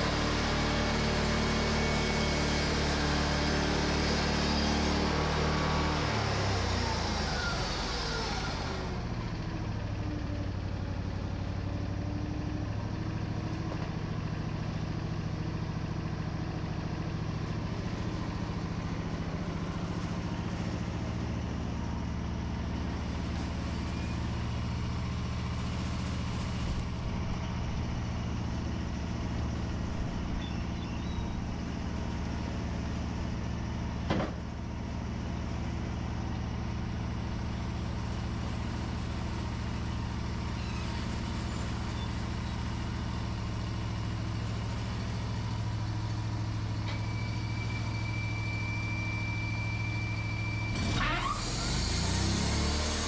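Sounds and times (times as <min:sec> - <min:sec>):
band sawmill engine droning: 0:00.0 - 0:53.0.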